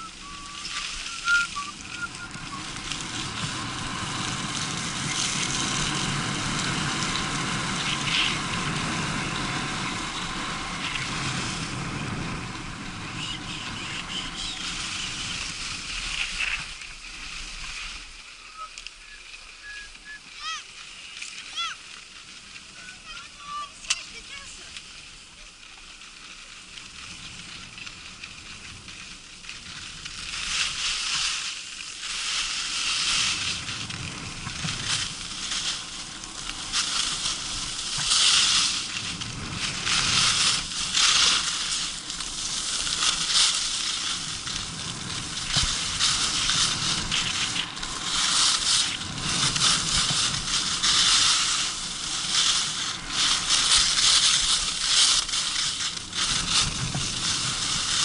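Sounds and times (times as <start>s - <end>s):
skis scraping on icy snow: 0.0s - 58.0s.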